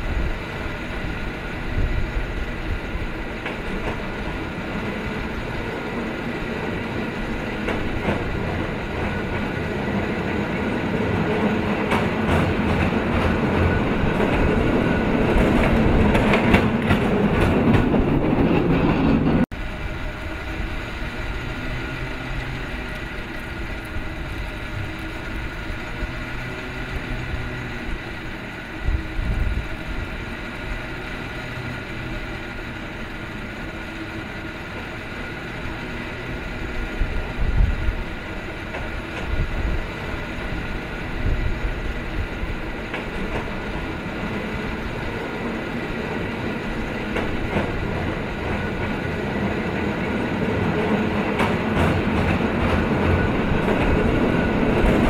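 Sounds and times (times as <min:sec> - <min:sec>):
cable car rolling on track: 0:00.0 - 0:55.0.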